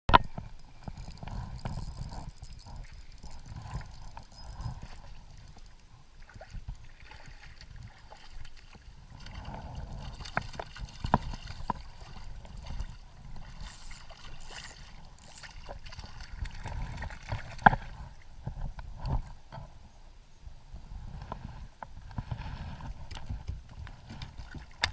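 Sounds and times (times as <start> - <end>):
water gurgling and lapping: 0.2 - 19.6, 21.0 - 24.9.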